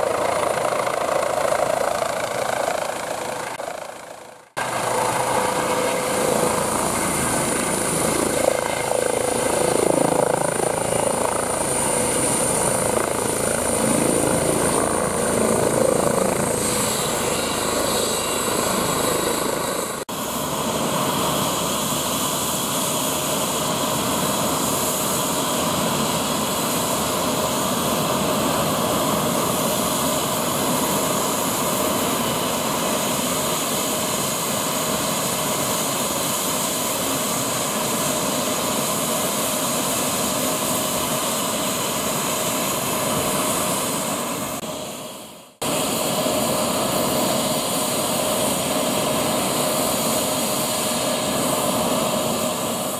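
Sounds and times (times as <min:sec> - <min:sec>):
helicopter rotor and turbine whine: 0:00.0 - 0:52.9.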